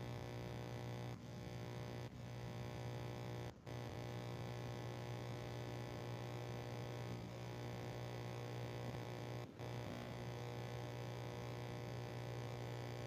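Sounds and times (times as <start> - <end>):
buzzy electrical mains hum: 0.0 - 13.0.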